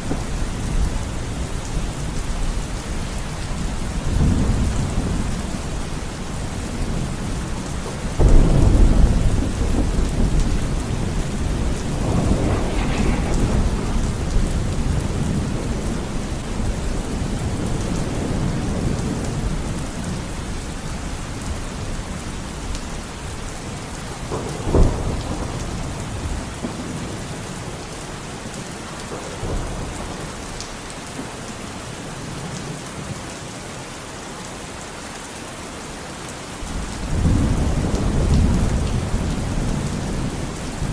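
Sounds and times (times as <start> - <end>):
thunder rumbling and cracking: 0.0 - 32.5, 36.7 - 40.9
steady rain: 0.0 - 40.9.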